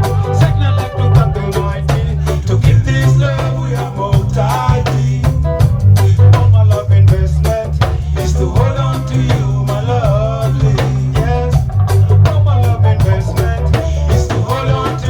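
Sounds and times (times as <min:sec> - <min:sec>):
drum kit beat: 0:00.0 - 0:15.0
heavy bass line: 0:00.0 - 0:15.0
live reggae band playing: 0:00.0 - 0:15.0.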